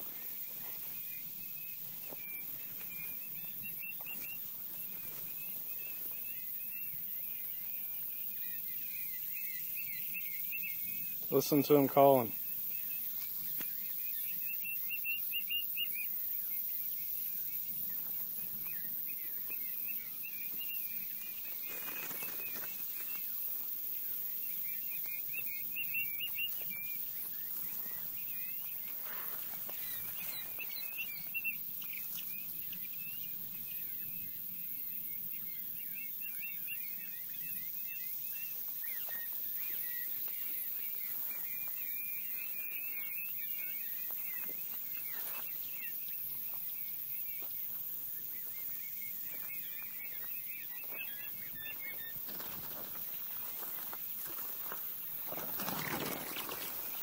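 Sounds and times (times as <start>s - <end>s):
birds chirping and twittering: 0.0s - 57.0s.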